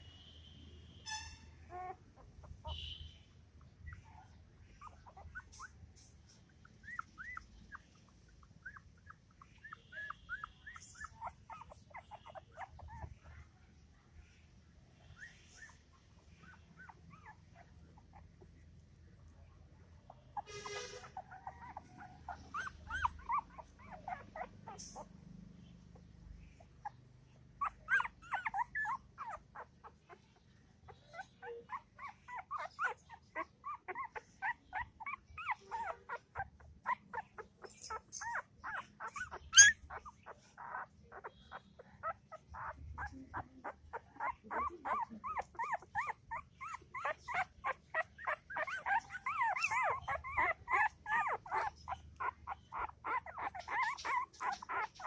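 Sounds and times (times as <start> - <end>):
puppies whimpering and squeaking: 1.1 - 2.8, 3.6 - 13.3, 15.0 - 18.6, 20.1 - 25.2, 25.9 - 55.0.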